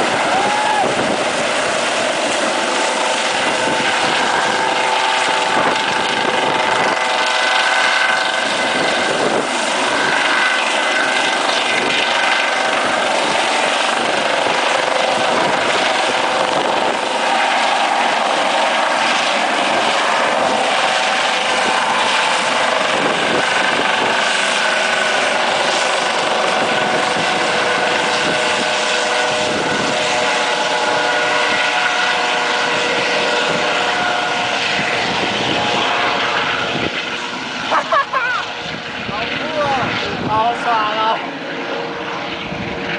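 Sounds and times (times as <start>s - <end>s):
helicopter running: 0.0s - 42.9s.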